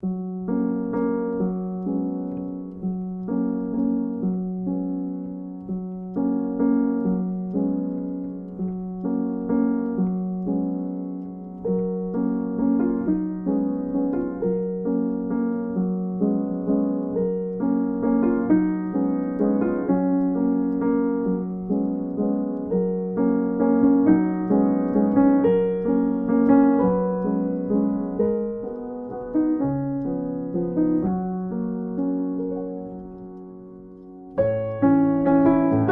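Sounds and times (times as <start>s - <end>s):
solo piano music: 0.0s - 35.9s.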